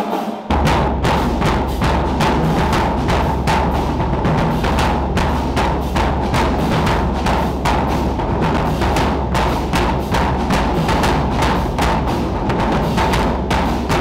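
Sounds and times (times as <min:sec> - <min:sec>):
marching drumline cadence: 0:00.0 - 0:14.0.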